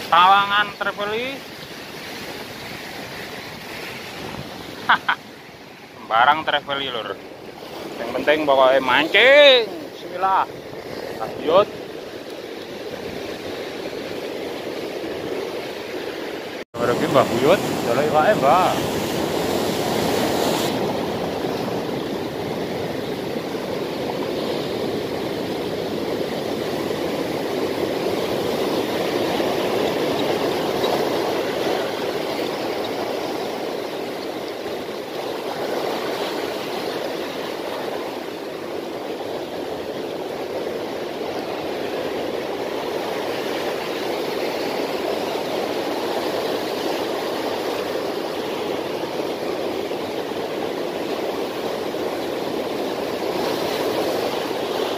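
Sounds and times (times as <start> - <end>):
surf washing over rocky beach: 0.0 - 54.9.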